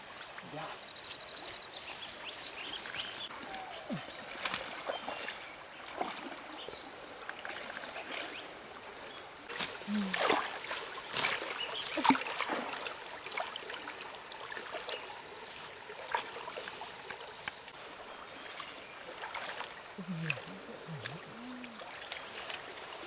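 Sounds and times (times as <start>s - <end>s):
river water splashing and sloshing: 0.0s - 23.0s.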